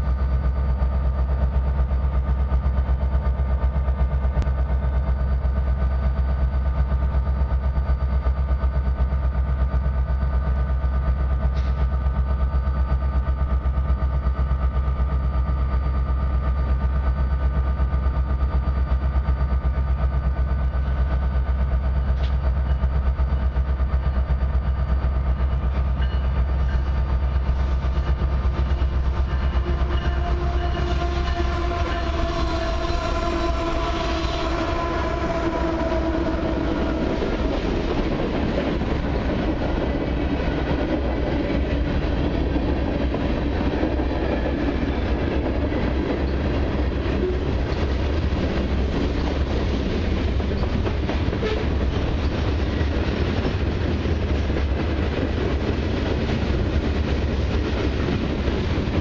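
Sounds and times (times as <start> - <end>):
diesel locomotive idling: 0.0 - 59.0
freight train locomotives approaching: 0.0 - 59.0.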